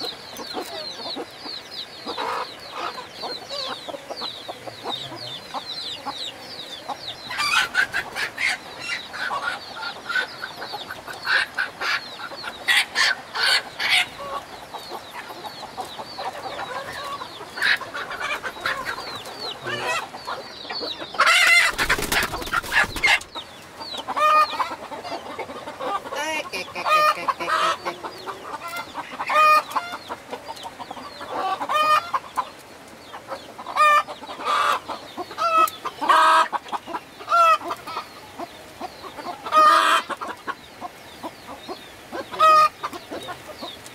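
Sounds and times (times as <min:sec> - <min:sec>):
chickens clucking and squawking: 0:00.0 - 0:43.9.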